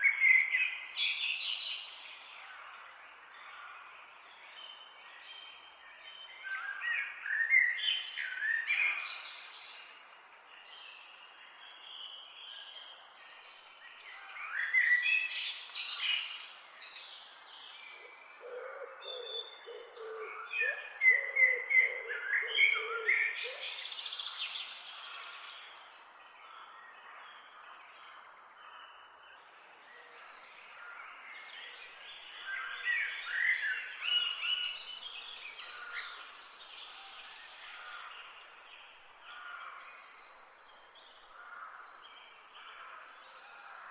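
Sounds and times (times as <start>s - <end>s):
songbirds singing and chirping: 0.0s - 43.9s.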